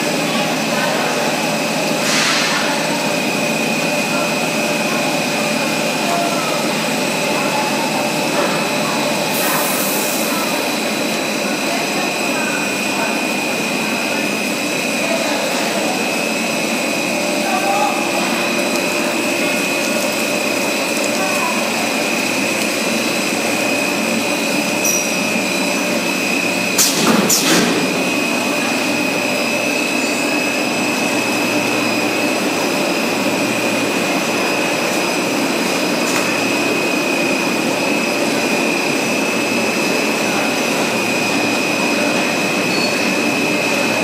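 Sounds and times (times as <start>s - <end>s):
machine drone and hiss: 0.0s - 44.0s.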